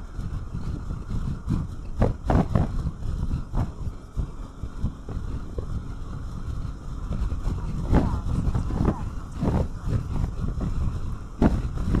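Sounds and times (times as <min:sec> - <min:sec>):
scooter engine and road noise: 0:00.0 - 0:12.0
wind buffeting microphone: 0:00.0 - 0:12.0.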